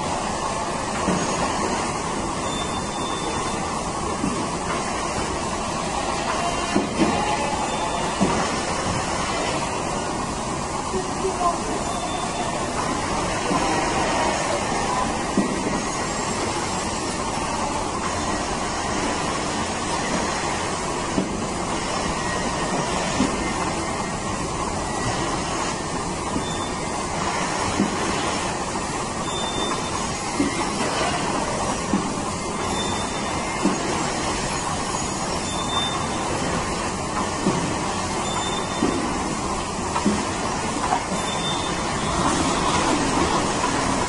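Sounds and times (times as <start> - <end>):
milking machinery running: 0.0 - 44.0.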